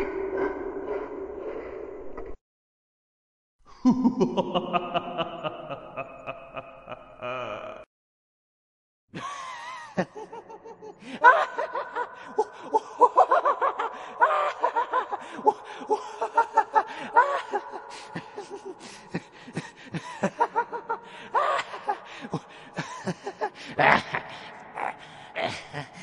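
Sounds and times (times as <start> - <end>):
evil cackling laugh: 3.8 - 7.9, 9.2 - 26.0.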